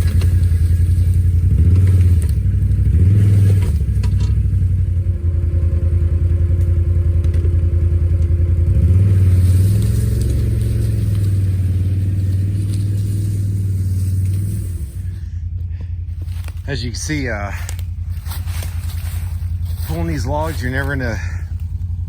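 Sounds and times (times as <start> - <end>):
atv engine revving under load: 0.0 - 22.0.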